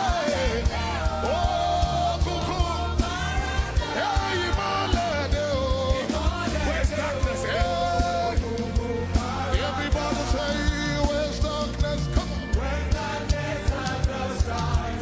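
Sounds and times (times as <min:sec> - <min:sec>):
gospel band playing: 0:00.0 - 0:15.0.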